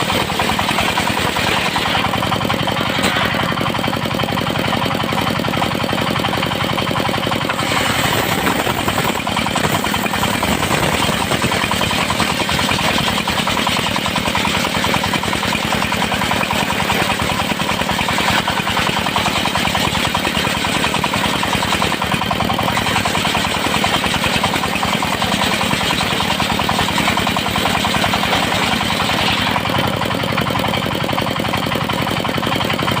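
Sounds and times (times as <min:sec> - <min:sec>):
saw blade cutting wood: 0:00.0 - 0:04.2, 0:07.0 - 0:21.9, 0:22.5 - 0:30.0
circular sawmill running: 0:00.0 - 0:33.0.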